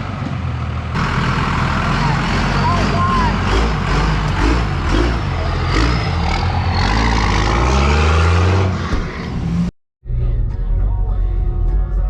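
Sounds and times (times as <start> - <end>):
road noise: 0.0 - 9.7
vehicle engine accelerating: 0.0 - 9.7.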